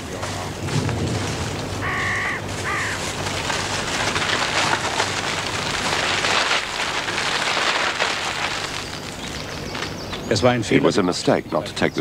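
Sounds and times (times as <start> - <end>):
plastic sheet crackling: 0.4 - 10.2.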